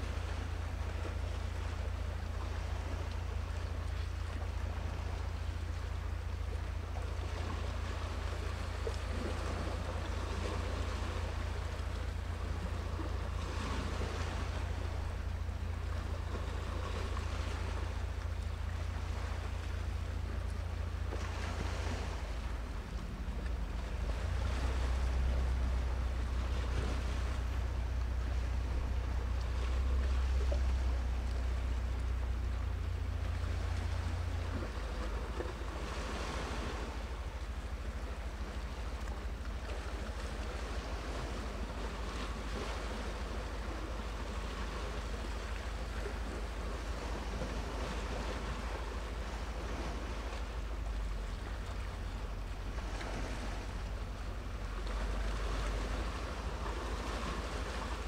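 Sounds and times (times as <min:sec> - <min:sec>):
small waves washing against shore: 0:00.0 - 0:58.0
wind rumble on microphone: 0:00.0 - 0:58.0.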